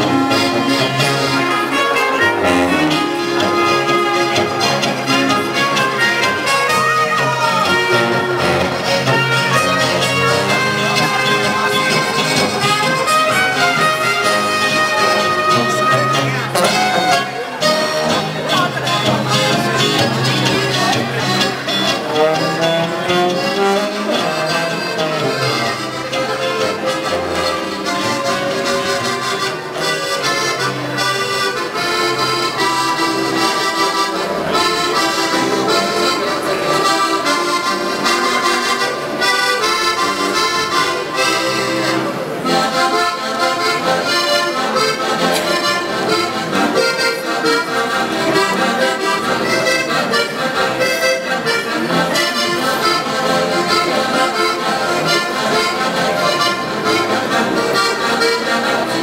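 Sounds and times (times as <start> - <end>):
accordion folk-dance music: 0.0 - 59.0.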